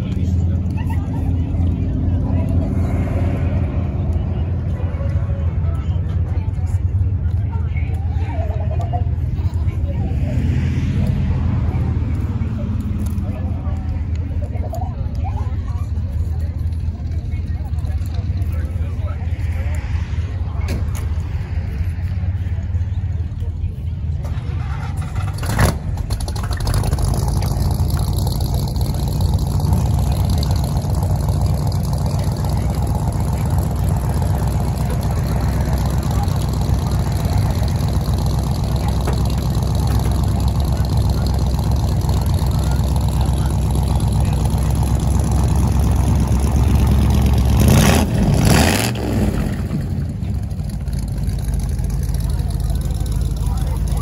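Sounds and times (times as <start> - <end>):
car engine idling: 0.0 - 10.3, 10.9 - 54.0.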